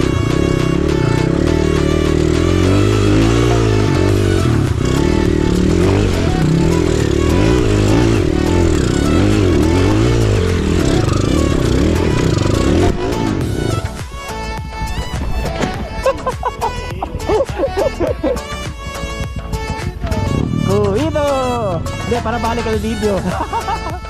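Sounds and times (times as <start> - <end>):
motorcycle engine revving: 0.0 - 16.6, 18.4 - 23.8.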